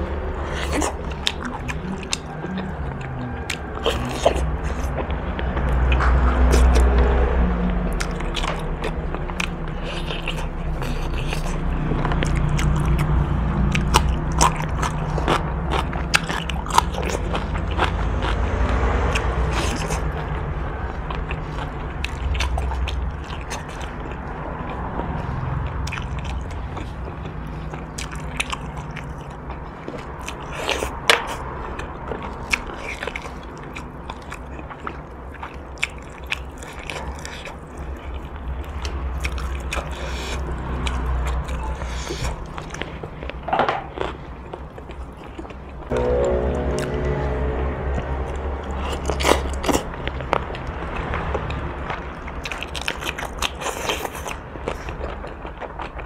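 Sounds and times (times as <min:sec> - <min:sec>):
chewing and biting meat: 0:00.0 - 0:45.9, 0:48.7 - 0:56.0.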